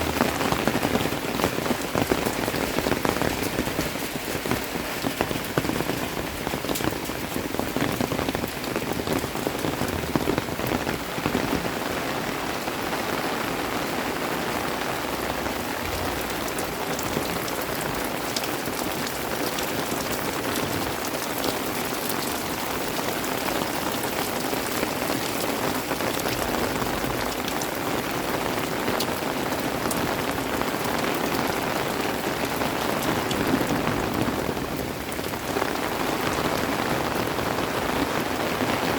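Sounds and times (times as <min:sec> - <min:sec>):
rain falling: 0:00.0 - 0:38.9
raindrops ticking: 0:00.0 - 0:38.9.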